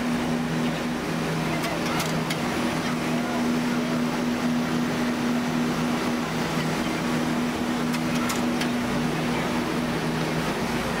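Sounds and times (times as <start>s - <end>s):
train machinery humming: 0.0s - 11.0s.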